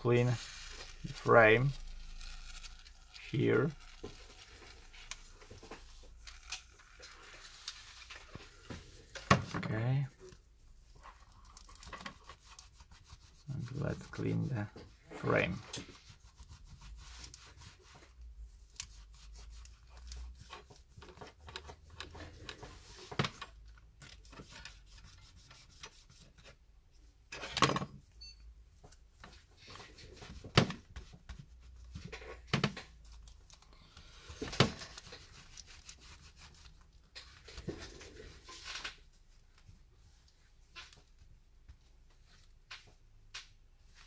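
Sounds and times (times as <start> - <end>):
rubbing and scraping on tablet frame: 0.0 - 26.7, 28.8 - 41.0.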